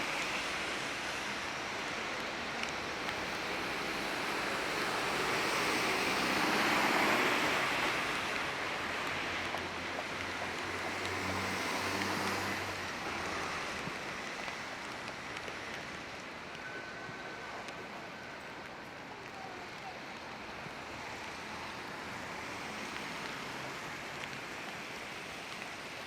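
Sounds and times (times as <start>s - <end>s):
rain and tyres on wet street: 0.0s - 26.0s.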